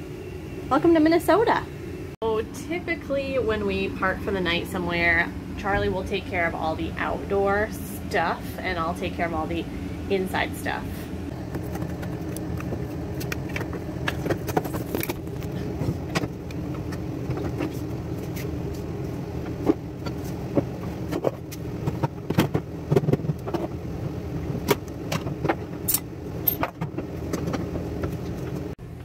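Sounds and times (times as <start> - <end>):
air conditioner humming: 0.0 - 29.0.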